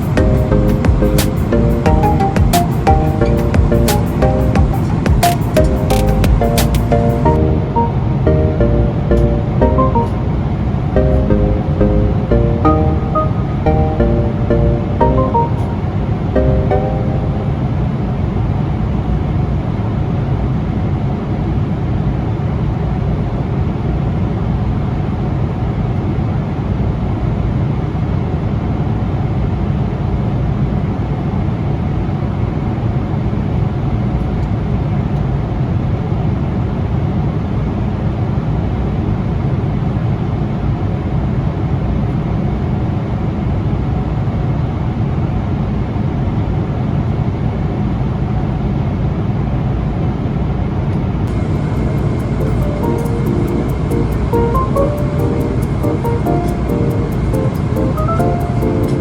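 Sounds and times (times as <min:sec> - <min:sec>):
airplane engine rumble in cabin: 0:00.0 - 0:59.0.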